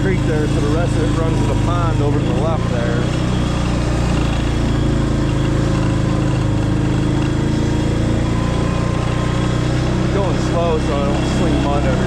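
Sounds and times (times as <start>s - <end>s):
vehicle engine driving through mud: 0.0s - 12.0s.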